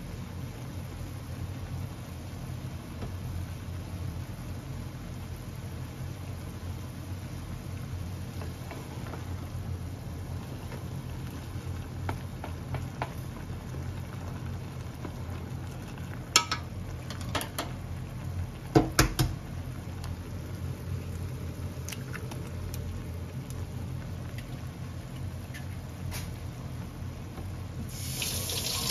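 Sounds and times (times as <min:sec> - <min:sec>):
broth simmering in a pot: 0:00.0 - 0:28.9.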